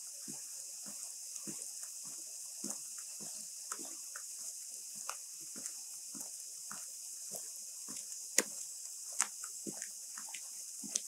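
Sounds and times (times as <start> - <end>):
light rain hiss: 0.0 - 11.0
footsteps walking: 0.2 - 11.0.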